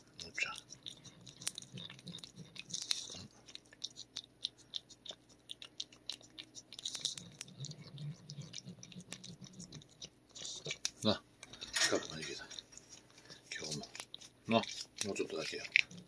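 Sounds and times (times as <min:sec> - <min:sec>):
cat licking wet clicks: 0:00.0 - 0:16.0.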